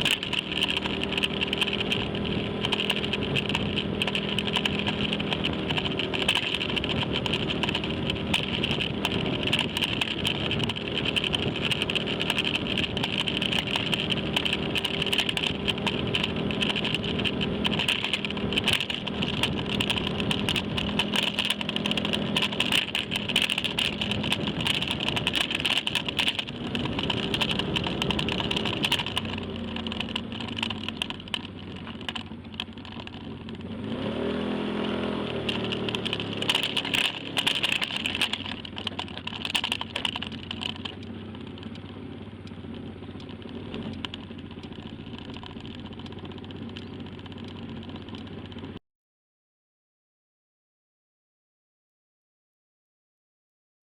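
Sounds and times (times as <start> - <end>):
small clicks and crackles: 0.0 - 33.8, 35.2 - 48.8
motorcycle engine running: 0.0 - 48.8.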